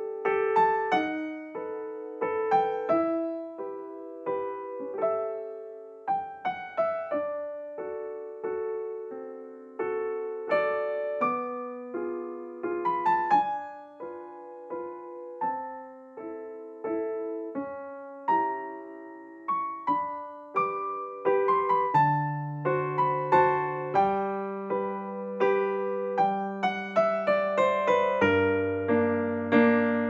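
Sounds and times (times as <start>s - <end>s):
solo piano music: 0.0s - 30.0s.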